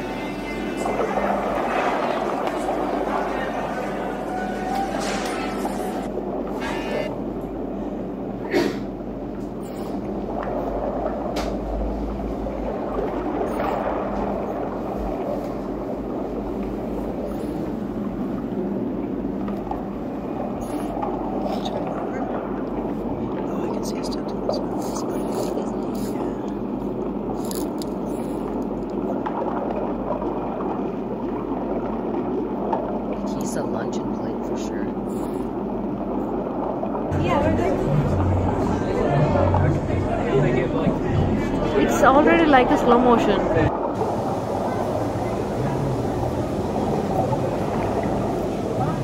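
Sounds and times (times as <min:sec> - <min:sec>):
aquarium water gurgling: 0:00.0 - 0:49.0
underwater rumbling noise: 0:00.0 - 0:49.0.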